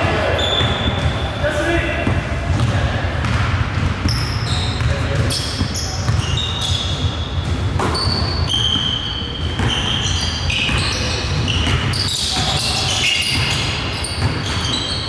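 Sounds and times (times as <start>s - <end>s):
sneakers squeaking: 0.0s - 15.0s
basketball bouncing: 2.0s - 9.9s, 10.6s - 14.8s.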